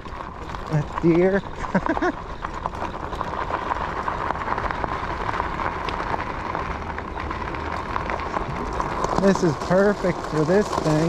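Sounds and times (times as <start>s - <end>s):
low rumble: 0.0s - 11.0s
tyres crunching on gravel: 0.0s - 11.0s.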